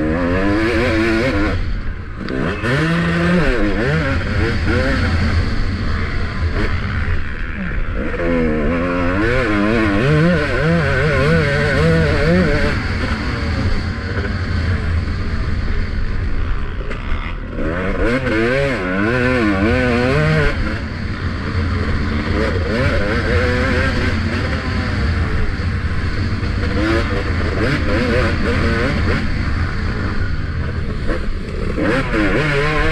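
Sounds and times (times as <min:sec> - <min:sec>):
motocross bike engine revving: 0:00.0 - 0:32.9.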